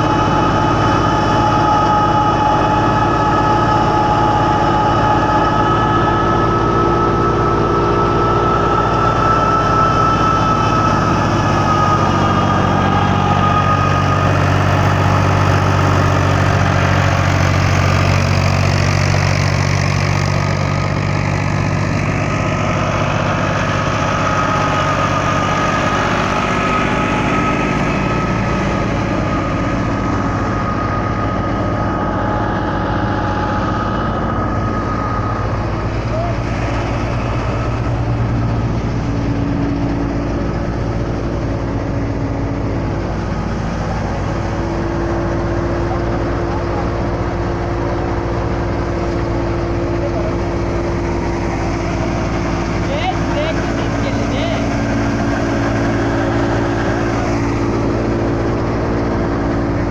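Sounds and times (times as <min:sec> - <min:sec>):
rushing noise: 0:00.0 - 0:59.9
thresher whine: 0:00.0 - 0:59.9
tractor diesel engine running: 0:00.0 - 0:59.9.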